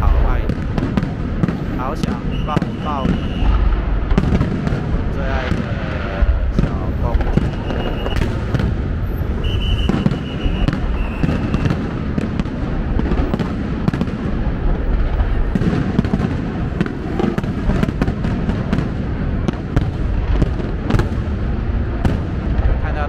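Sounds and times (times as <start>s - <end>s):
fireworks cracks and pops: 0.0s - 21.4s
fireworks bursting: 0.0s - 23.0s.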